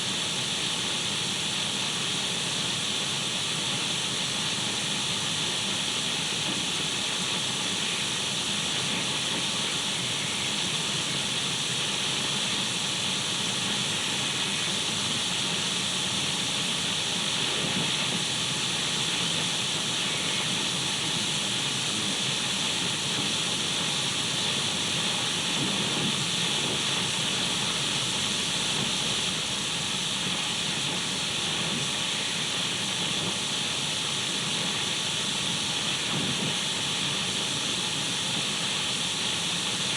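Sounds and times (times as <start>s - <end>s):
radio static hiss: 6.5s - 38.8s.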